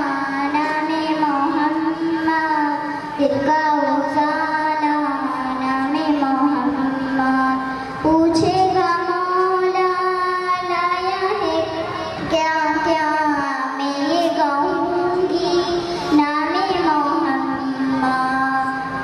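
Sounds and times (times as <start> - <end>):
girl singing into microphone: 0.0 - 19.0.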